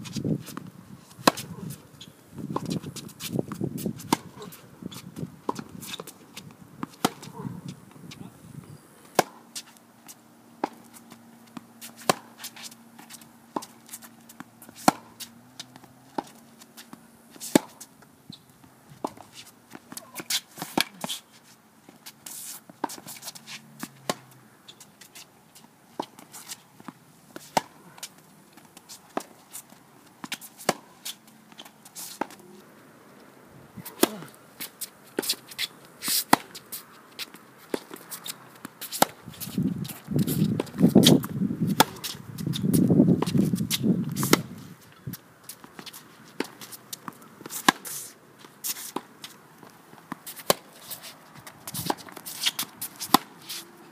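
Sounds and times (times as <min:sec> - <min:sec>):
tennis balls struck and bouncing: 0:00.4 - 0:08.3, 0:09.0 - 0:21.2, 0:21.9 - 0:32.7, 0:33.8 - 0:53.6.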